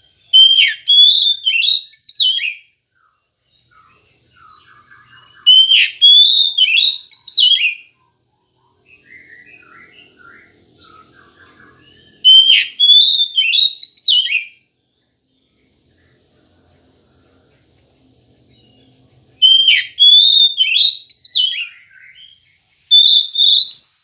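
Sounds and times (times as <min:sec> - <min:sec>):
bird whistled song runs: 0:00.0 - 0:14.6, 0:17.5 - 0:24.0
soft bird twittering: 0:00.0 - 0:24.0.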